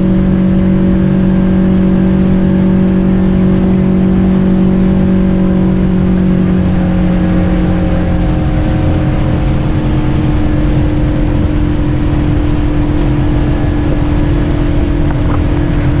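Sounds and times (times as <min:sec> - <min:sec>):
boat motor running: 0:00.0 - 0:16.0
low rumble: 0:00.0 - 0:16.0.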